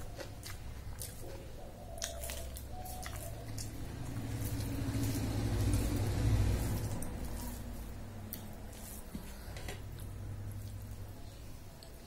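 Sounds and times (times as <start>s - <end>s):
fingers squishing rice on steel plate: 0.0s - 11.0s.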